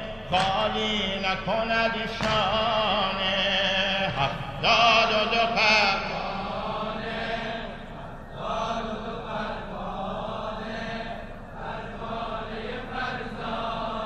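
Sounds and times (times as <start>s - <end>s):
men chanting a lament: 0.0s - 14.0s.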